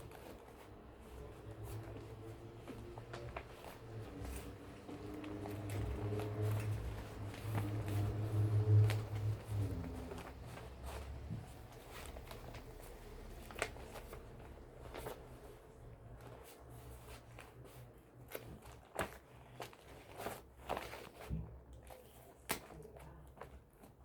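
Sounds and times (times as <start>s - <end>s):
low steady hum: 0.0s - 23.9s
paper rustling and crinkling: 0.0s - 24.0s.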